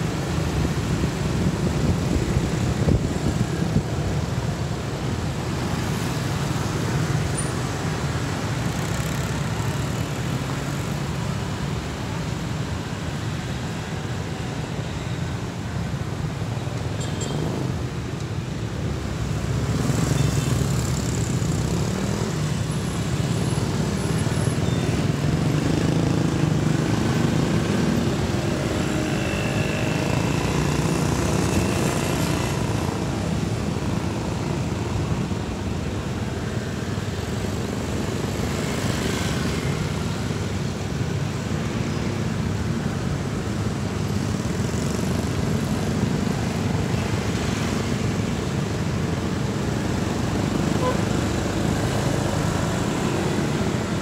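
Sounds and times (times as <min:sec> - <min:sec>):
motorcycles and cars passing: 0:00.0 - 0:54.0.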